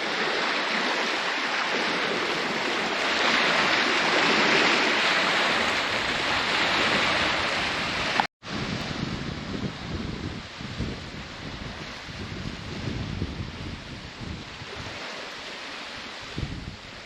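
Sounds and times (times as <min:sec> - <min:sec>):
water rushing: 0:00.0 - 0:17.0
wind buffeting microphone: 0:00.0 - 0:17.0.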